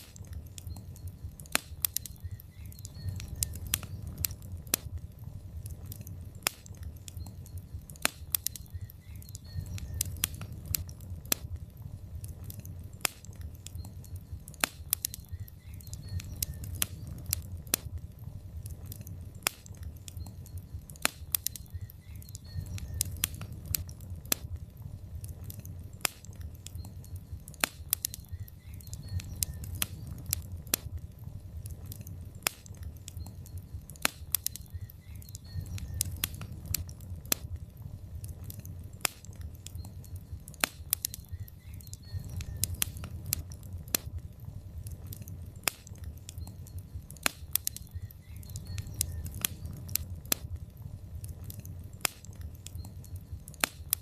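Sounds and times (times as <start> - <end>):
logs crackling and popping: 0.0 - 54.0
low rumble of flame: 0.0 - 54.0.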